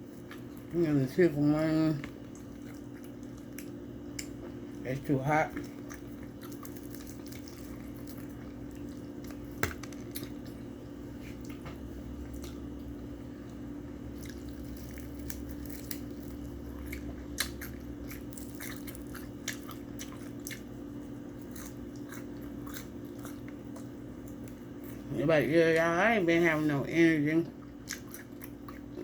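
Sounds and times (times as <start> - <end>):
steady low hum: 0.0 - 29.0
chewing and mouth smacks: 0.1 - 0.7, 2.0 - 4.6, 5.5 - 25.1, 27.5 - 29.0.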